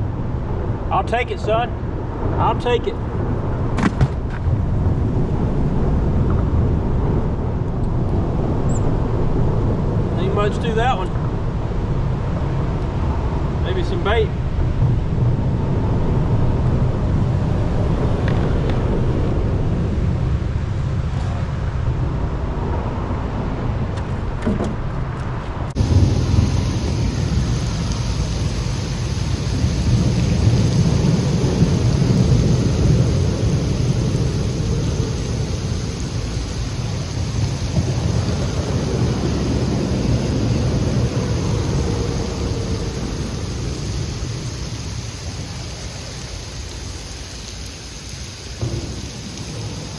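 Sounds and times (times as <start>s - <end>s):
steady rain hiss: 0.0s - 23.6s, 25.7s - 49.9s
wind buffeting microphone: 0.0s - 47.1s.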